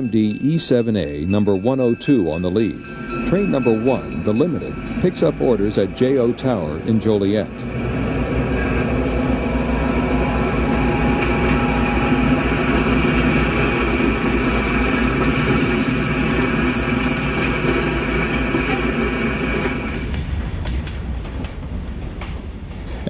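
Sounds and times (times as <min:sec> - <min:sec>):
high wheel squeal: 0:00.0 - 0:20.0
train wheels rumbling on rails: 0:00.0 - 0:23.0.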